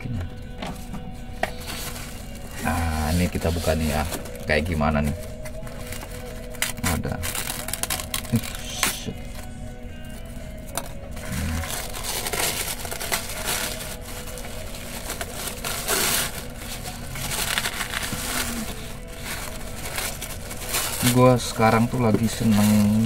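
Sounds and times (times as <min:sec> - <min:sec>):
plastic packaging crinkling: 0:01.5 - 0:23.0.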